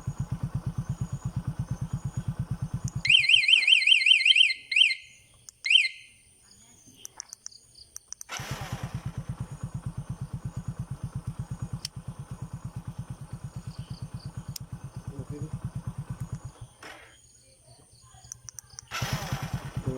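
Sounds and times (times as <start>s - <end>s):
motorcycle engine idling: 0.0s - 6.0s, 8.3s - 19.9s.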